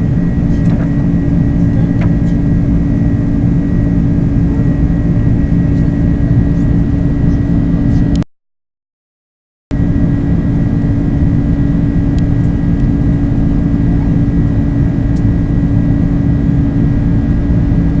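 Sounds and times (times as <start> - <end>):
high engine whine: 0.0 - 8.2, 9.7 - 18.0
jet engine noise in cabin: 0.0 - 8.2, 9.7 - 18.0.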